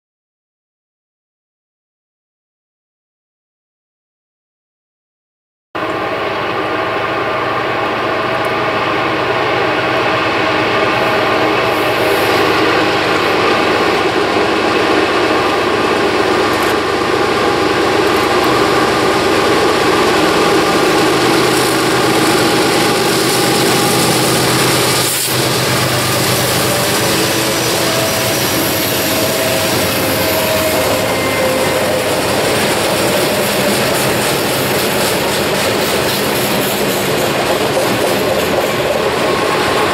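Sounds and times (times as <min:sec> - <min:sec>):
diesel locomotives running past: 0:05.8 - 0:39.9
freight cars wheel-on-rail noise: 0:05.8 - 0:39.9.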